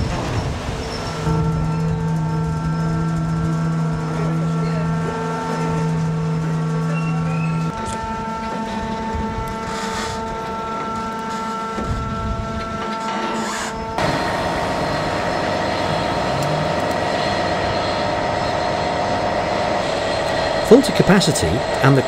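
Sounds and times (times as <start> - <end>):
coal train mechanical rumble: 0.0 - 22.0.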